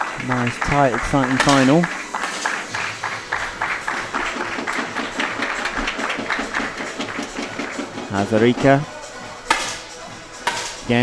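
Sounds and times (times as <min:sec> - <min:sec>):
short clicking beats: 0:00.0 - 0:11.0.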